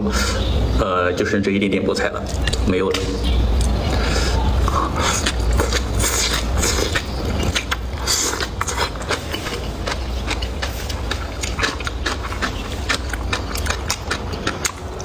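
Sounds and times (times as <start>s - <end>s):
steady low hum: 0.0s - 15.0s
person eating crunchy food: 2.2s - 15.0s.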